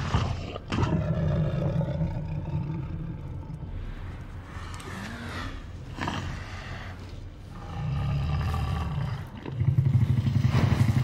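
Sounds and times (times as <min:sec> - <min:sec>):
low rumbling monster growl: 0:00.0 - 0:11.0.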